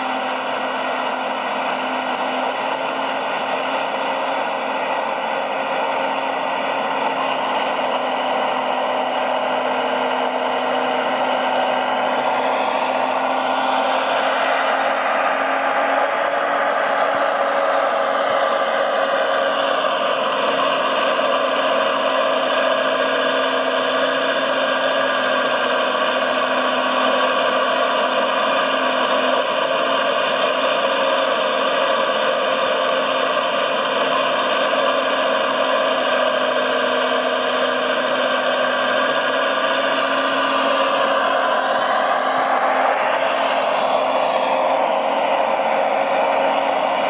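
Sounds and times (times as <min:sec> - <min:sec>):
model truck motor whirring: 0:00.0 - 0:47.0.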